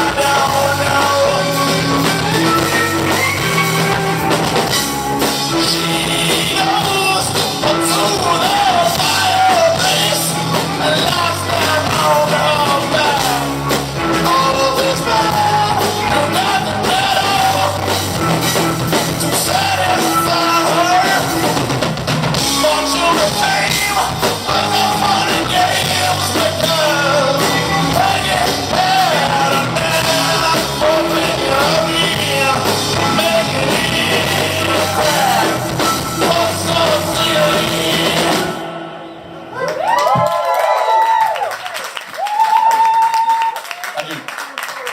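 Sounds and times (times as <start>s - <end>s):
drum kit: 0.0s - 38.8s
person singing: 0.0s - 39.6s
guitar: 0.0s - 39.7s.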